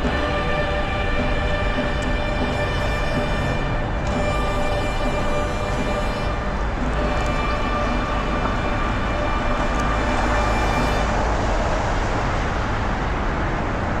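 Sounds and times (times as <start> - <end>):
orchestral music: 0.0 - 12.7
road traffic rumble: 0.0 - 14.0.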